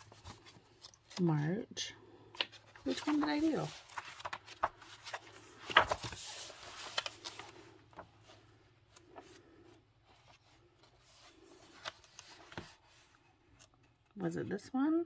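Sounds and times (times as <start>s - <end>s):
book pages flipping: 0.0s - 1.5s, 2.2s - 14.2s.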